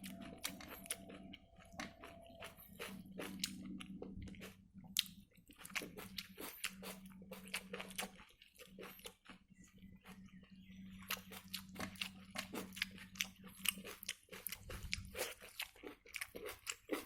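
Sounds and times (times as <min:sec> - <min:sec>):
person chewing food: 0:00.0 - 0:17.0
steady low hum: 0:00.0 - 0:17.0.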